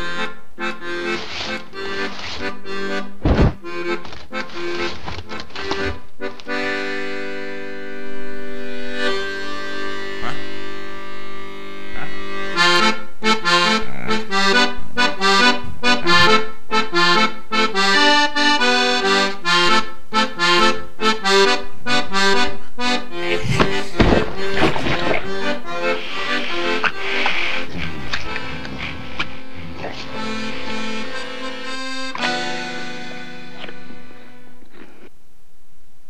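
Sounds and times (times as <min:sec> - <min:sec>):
instrumental soundtrack music: 0:00.0 - 0:34.7.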